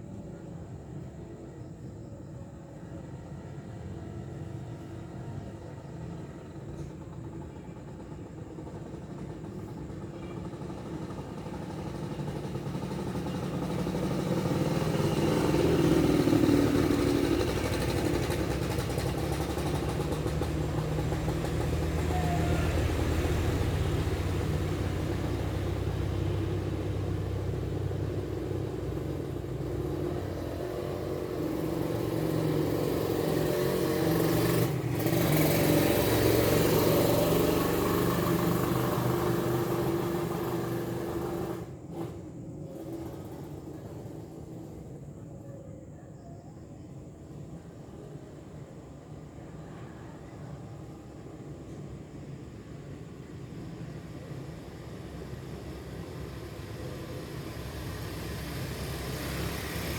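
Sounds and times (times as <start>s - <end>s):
engine running: 3.4s - 45.2s, 53.3s - 59.9s.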